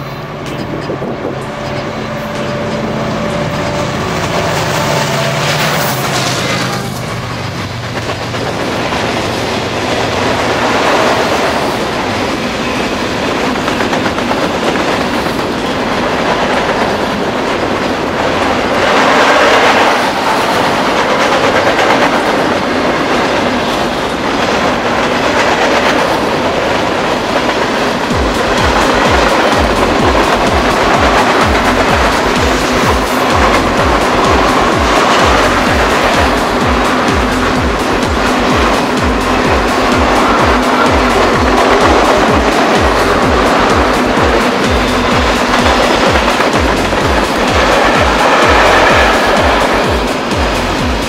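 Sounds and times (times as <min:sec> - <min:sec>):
diesel locomotive engine: 0:00.0 - 0:51.0
freight train cars rumbling past: 0:00.0 - 0:51.0
wheels clattering on rails: 0:00.0 - 0:51.0.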